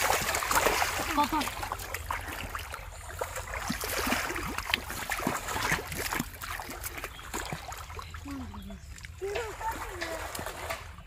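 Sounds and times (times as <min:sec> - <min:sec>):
muddy water splashing and sloshing: 0:00.0 - 0:11.0
small splashes and drips: 0:00.0 - 0:11.0.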